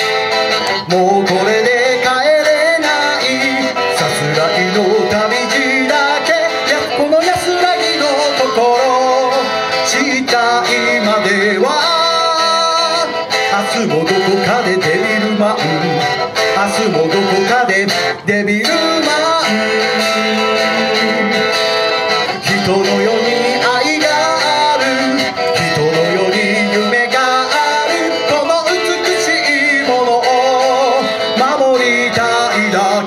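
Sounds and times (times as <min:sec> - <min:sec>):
backing track through speakers: 0:00.0 - 0:33.0
electric guitar melody: 0:00.0 - 0:33.0.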